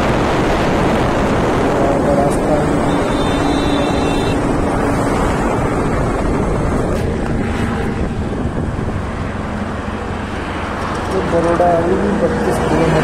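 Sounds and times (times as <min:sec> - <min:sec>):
road and engine noise: 0:00.0 - 0:13.0
wind buffeting microphone: 0:00.0 - 0:13.0.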